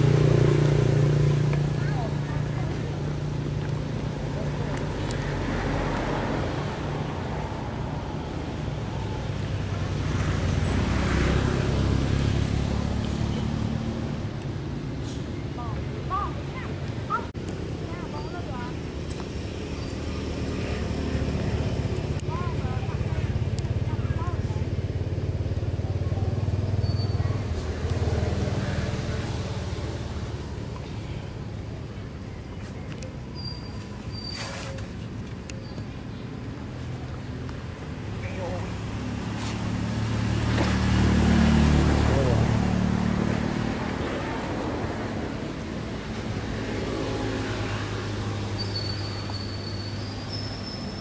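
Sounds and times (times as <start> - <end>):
motor vehicle engine hum: 0.0 - 51.0.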